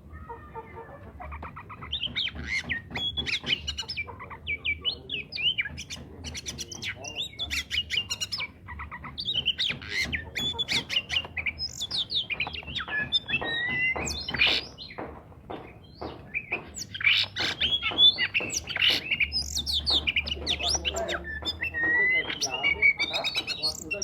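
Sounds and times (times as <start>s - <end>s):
songbird whistling and squawking: 0.1s - 24.0s.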